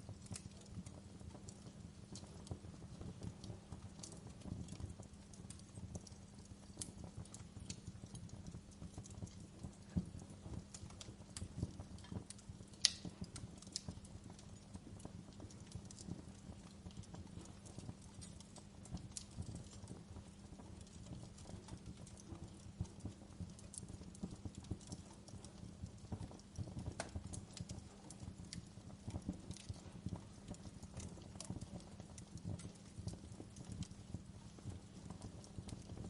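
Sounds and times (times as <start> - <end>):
low rumble of flame: 0.0 - 36.0
wood fire crackling and popping: 0.0 - 36.0.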